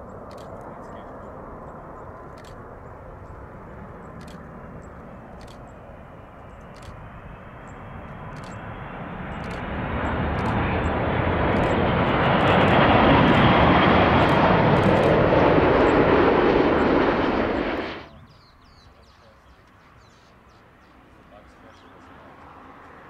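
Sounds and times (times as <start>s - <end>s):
jet engines roaring: 0.0s - 18.3s, 19.7s - 23.0s.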